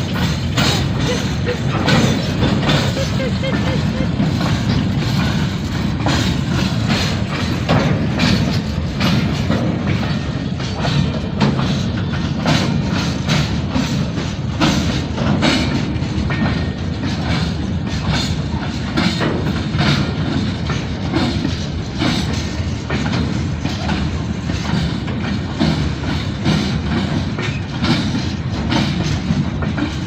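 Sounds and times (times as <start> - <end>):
train rumble: 0.0 - 30.0
train wheels clacking: 0.0 - 30.0.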